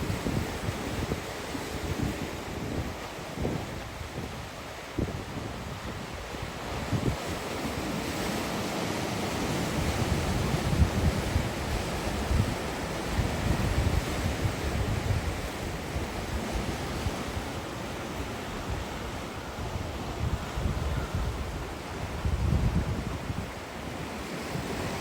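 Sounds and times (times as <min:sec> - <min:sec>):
wind rumbling on microphone: 0:00.0 - 0:08.1, 0:09.4 - 0:25.0
sea waves washing on shore: 0:00.0 - 0:25.0.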